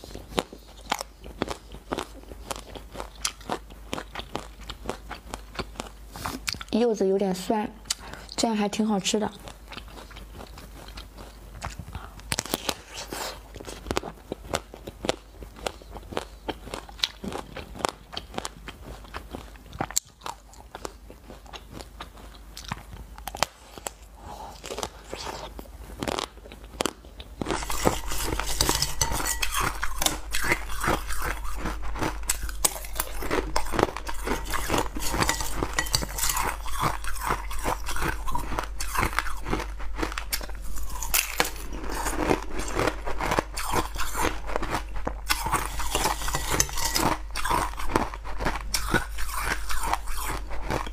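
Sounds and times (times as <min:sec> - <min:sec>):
loud crunching and chewing: 0:00.0 - 0:06.8, 0:09.2 - 0:50.9.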